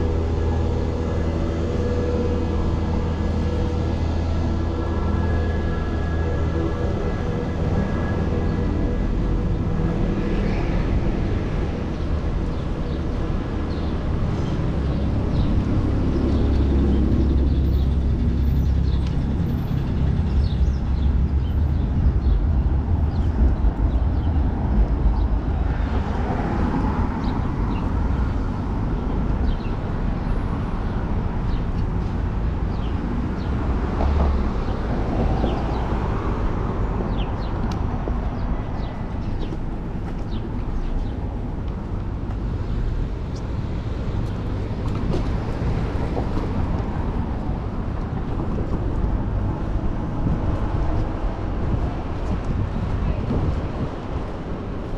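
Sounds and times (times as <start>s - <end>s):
city street traffic: 0.0s - 54.9s
wind rumble on microphone: 0.0s - 54.9s.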